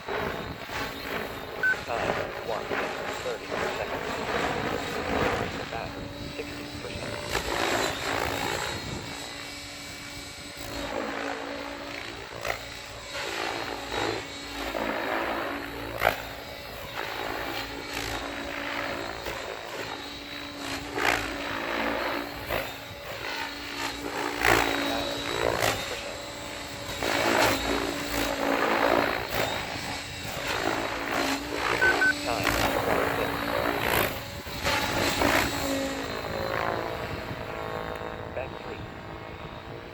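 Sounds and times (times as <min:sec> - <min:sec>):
electric motor and gear whine: 0:00.0 - 0:39.9.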